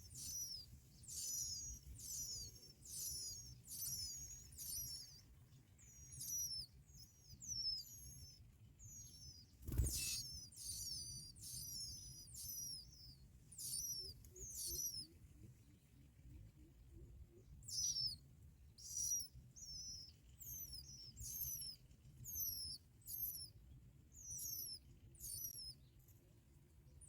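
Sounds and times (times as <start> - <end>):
bird high-pitched calls: 0.0 - 15.2, 17.6 - 18.2, 18.8 - 25.8.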